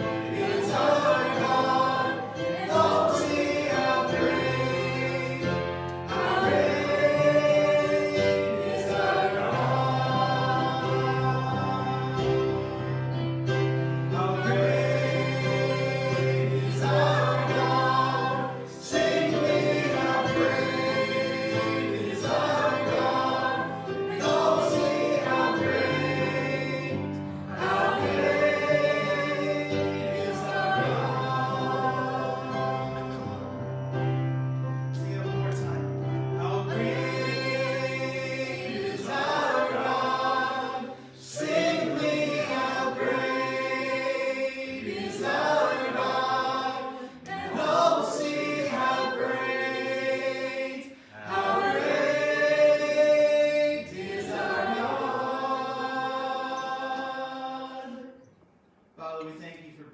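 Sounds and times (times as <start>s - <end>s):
instrumental accompaniment: 0.0s - 50.4s
voices singing together: 0.0s - 58.6s.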